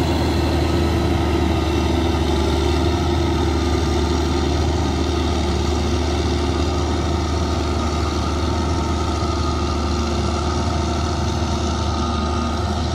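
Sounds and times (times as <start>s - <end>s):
tractor diesel engine under load: 0.0s - 12.9s.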